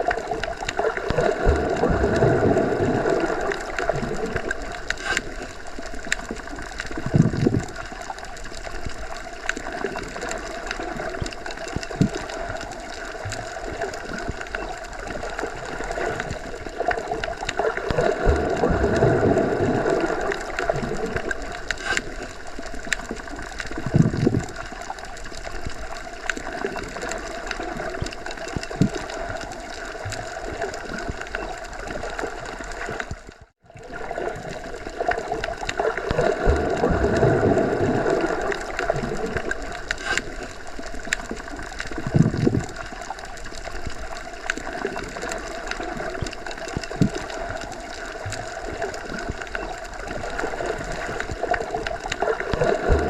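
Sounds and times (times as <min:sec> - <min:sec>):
muffled underwater rushing: 0:00.0 - 0:53.0.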